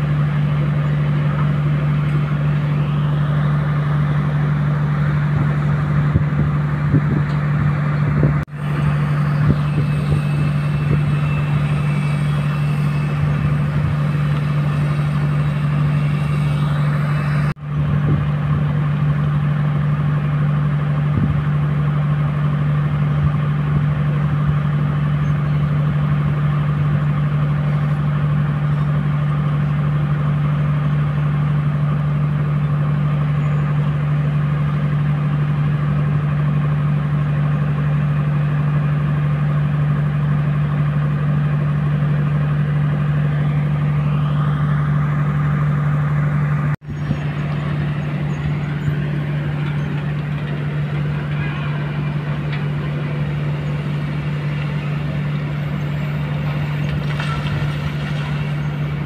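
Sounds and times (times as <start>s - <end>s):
excavator diesel engine drone: 0.0s - 59.0s.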